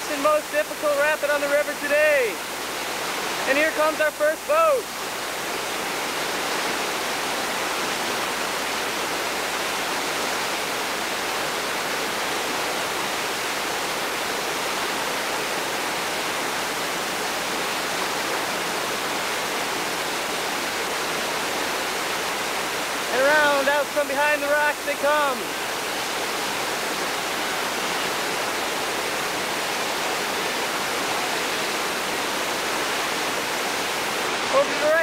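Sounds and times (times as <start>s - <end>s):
whitewater rapid rushing: 0.0s - 35.0s.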